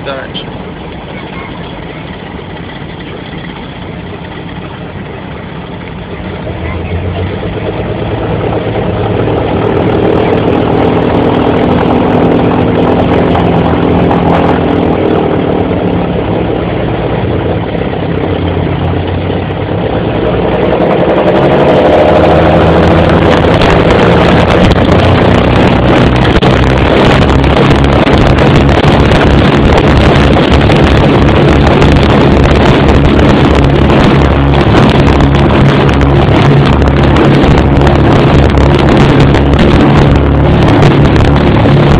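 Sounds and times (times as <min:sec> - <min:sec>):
propeller plane engines running: 0:00.0 - 0:41.9.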